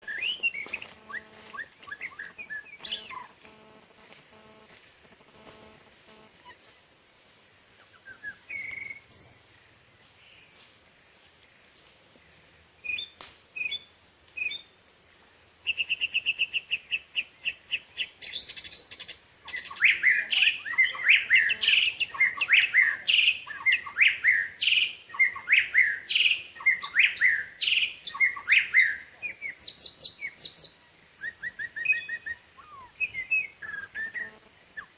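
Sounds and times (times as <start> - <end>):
steady high hiss: 0.0 - 34.9.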